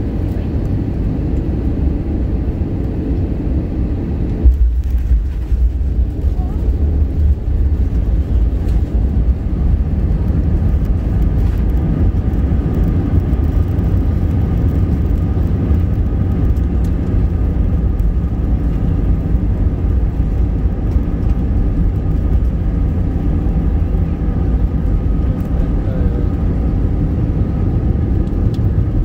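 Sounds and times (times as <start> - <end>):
aircraft cabin rumble: 0.0 - 29.0
faint engine whine: 0.0 - 29.0.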